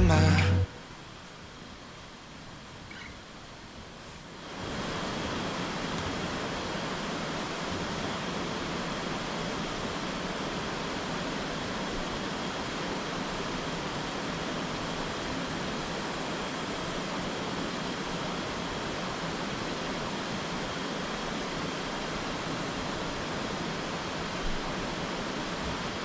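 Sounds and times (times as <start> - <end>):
flowing water rushing: 4.5 - 26.0.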